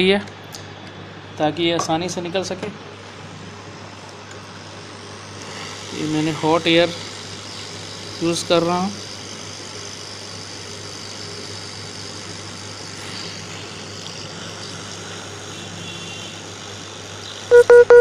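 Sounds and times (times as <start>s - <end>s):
constant low hum: 0.0s - 18.0s
hot air station blowing: 2.8s - 17.5s.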